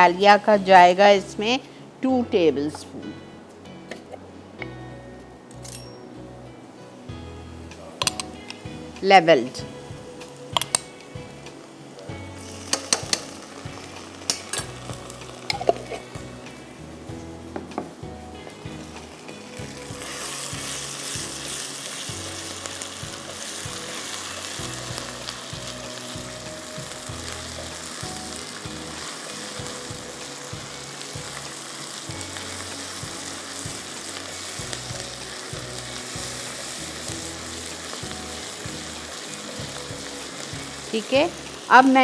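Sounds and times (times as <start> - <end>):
onions sizzling in oil: 8.3 - 42.0.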